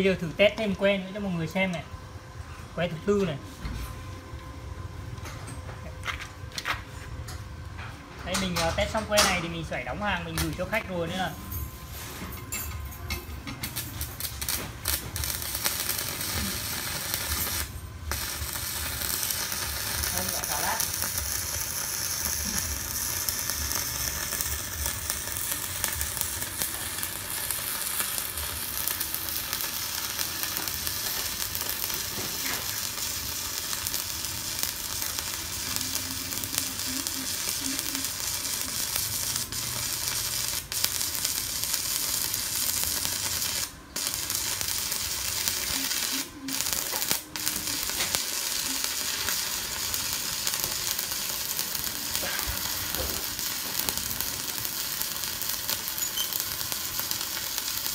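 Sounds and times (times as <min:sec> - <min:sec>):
crackling welding arc: 0:00.0 - 0:02.2, 0:08.2 - 0:57.9.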